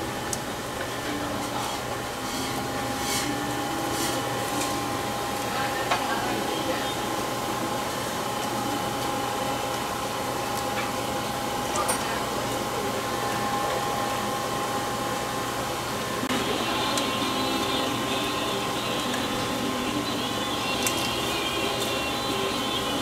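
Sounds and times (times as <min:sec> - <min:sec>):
machine-like hum: 0:00.0 - 0:23.0.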